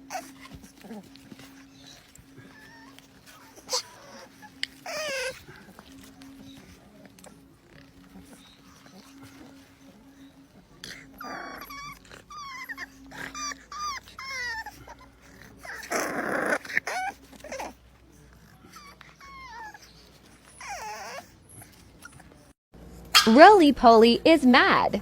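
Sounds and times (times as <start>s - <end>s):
puppy whining and whimpering: 0.0s - 22.6s.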